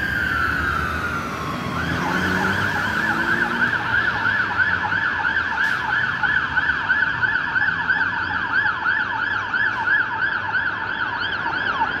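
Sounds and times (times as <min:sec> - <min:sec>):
engine and road rumble: 0:00.0 - 0:12.0
fire engine siren sweeping: 0:00.0 - 0:12.0.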